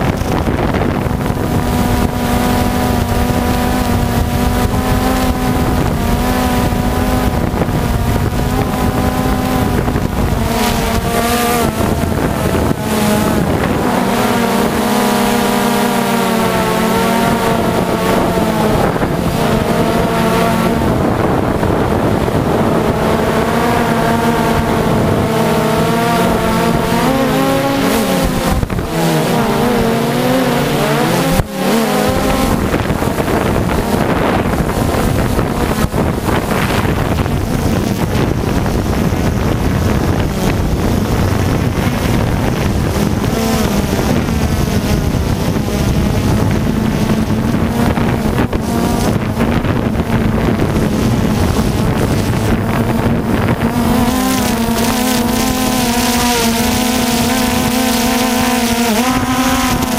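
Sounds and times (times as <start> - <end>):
drone propellers whining: 0.0 - 59.9
wind noise on microphone: 0.0 - 59.9.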